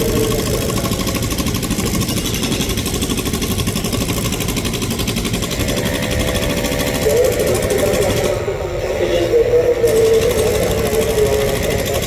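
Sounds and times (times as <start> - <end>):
electric train rumbling over track: 0.0 - 12.0.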